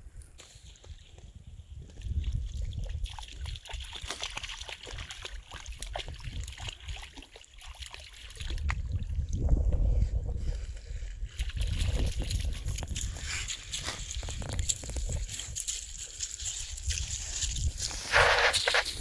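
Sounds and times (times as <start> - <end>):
water splashing around dog legs: 0.7 - 9.5, 11.3 - 19.0.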